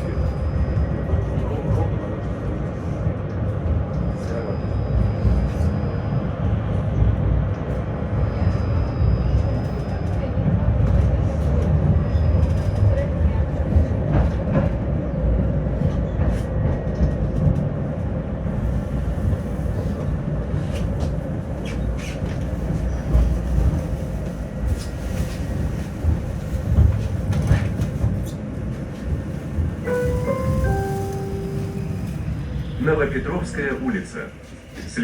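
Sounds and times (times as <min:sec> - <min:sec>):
tram wheels rumbling: 0:00.0 - 0:35.0.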